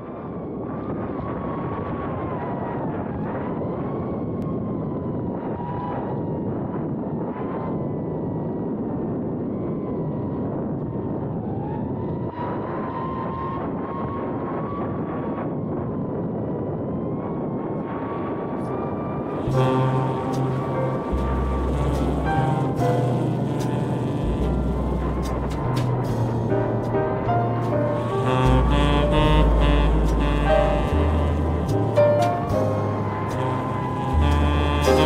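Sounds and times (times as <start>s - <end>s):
wind and propeller rush: 0.0s - 34.0s.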